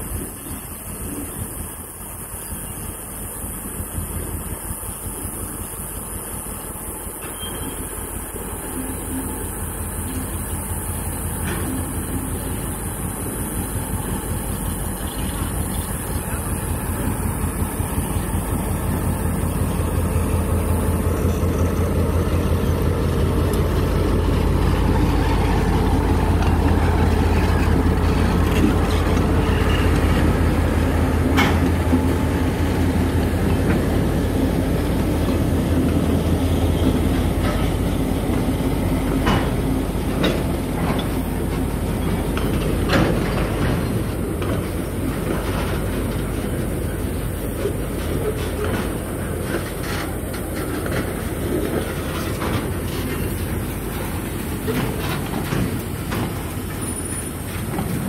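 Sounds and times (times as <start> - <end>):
diesel locomotive engines rumbling: 0.0 - 58.0
train wheels clanking on track: 0.0 - 58.0.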